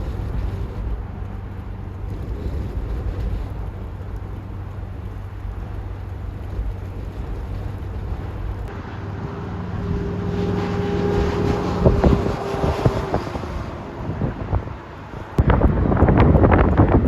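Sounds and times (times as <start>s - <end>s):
wind buffeting microphone: 0.0s - 9.0s, 9.6s - 17.0s
droning tone: 0.0s - 15.4s.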